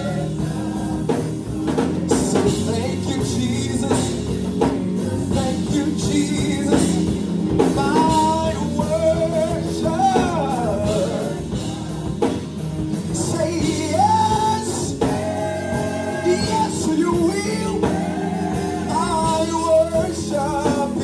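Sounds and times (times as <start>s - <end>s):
gospel choir singing: 0.0s - 21.0s
instrumental accompaniment: 0.0s - 21.0s.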